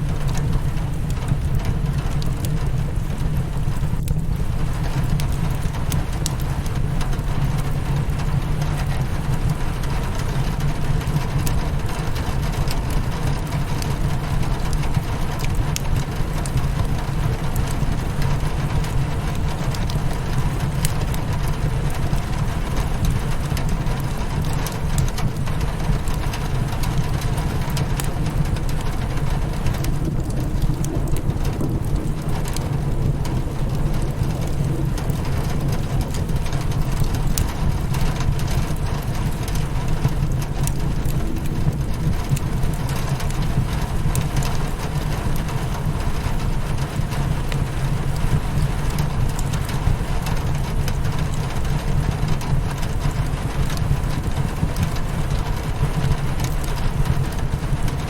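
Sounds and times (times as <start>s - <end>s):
rain hitting a window: 0.0s - 58.0s
wood fire crackling and popping: 0.0s - 58.0s.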